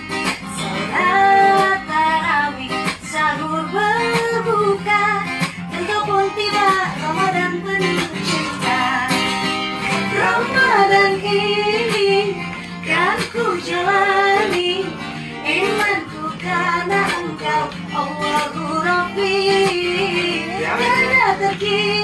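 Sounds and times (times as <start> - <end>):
acoustic guitar: 0.0 - 22.0
woman singing: 0.2 - 22.0.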